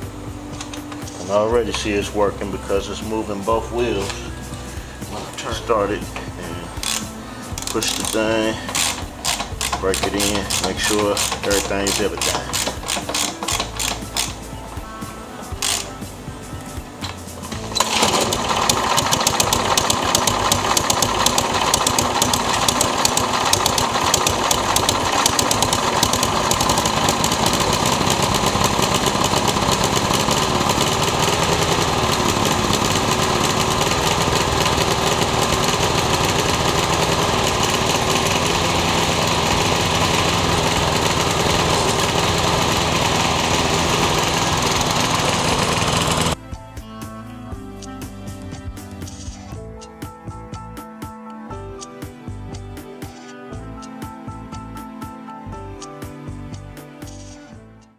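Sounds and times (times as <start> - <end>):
lawn mower engine running: 0.0 - 46.4.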